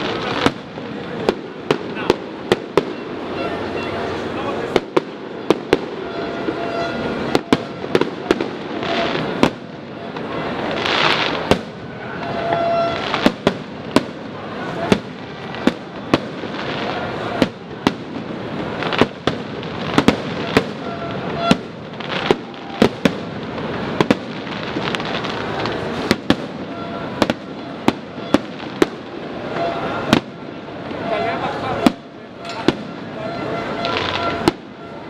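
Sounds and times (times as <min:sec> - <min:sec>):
continuous noisy wash: 0:00.0 - 0:35.0.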